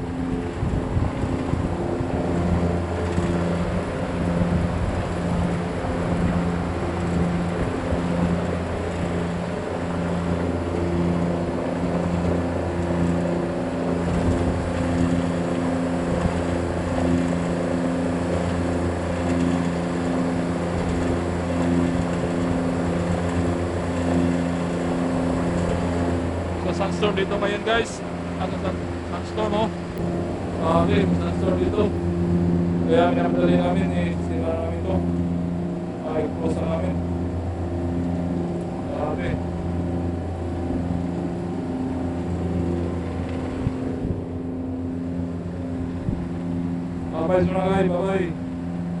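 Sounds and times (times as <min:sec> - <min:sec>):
air conditioner humming: 0:00.0 - 0:49.0
wavering pitched tones: 0:00.0 - 0:49.0.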